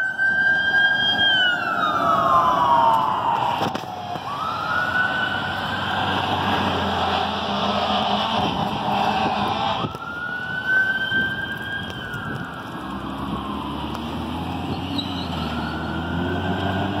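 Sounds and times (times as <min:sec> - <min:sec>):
fire engine siren wailing: 0:00.0 - 0:17.0
truck engine: 0:00.0 - 0:17.0.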